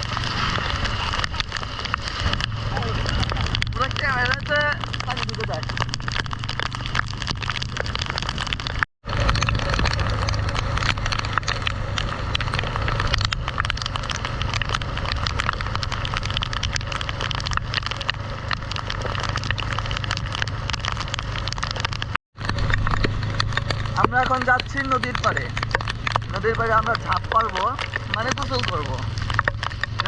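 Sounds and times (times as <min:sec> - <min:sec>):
motorbike engine and road hum: 0:00.0 - 0:30.0
raindrops striking microphone: 0:00.0 - 0:30.0.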